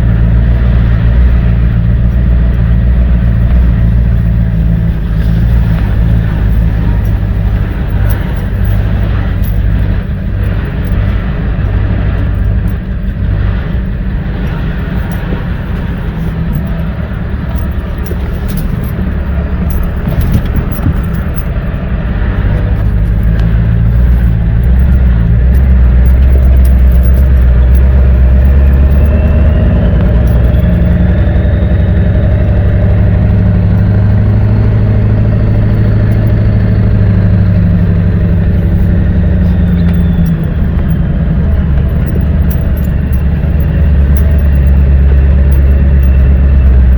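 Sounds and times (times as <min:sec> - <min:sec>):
small vehicle engine running: 0:00.0 - 0:46.9.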